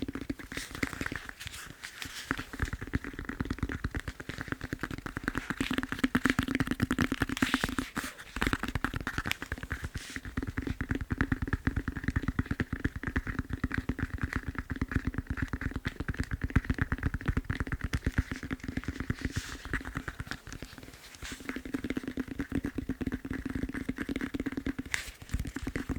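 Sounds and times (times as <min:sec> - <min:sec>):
fingertips tapping on foam roller: 0:00.0 - 0:25.9.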